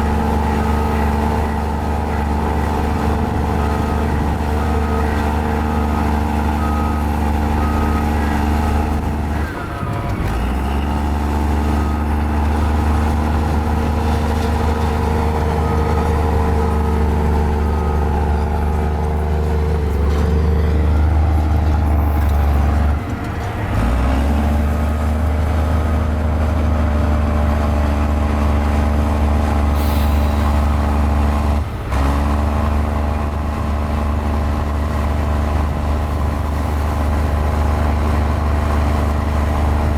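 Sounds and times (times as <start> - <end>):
bulldozer diesel engine rumbling: 0.0 - 39.9.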